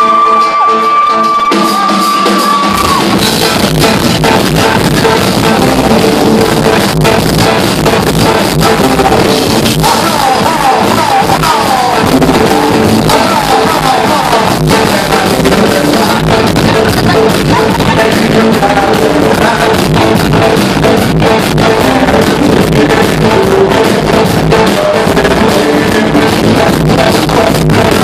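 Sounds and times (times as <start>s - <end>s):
country band playing: 0.0s - 28.0s
man singing: 0.0s - 28.0s.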